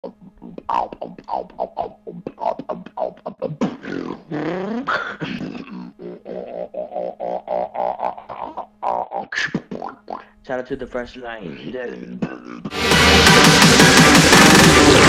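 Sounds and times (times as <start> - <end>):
beatboxing: 0.0 - 10.4, 11.9 - 15.0.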